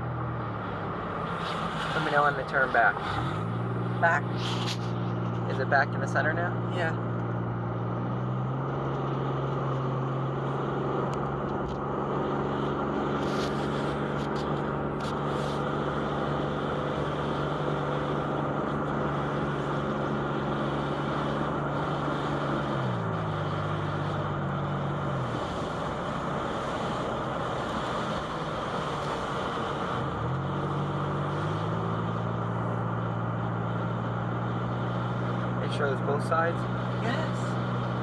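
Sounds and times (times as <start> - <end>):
car engine: 0.0 - 38.0
road noise: 0.0 - 38.0.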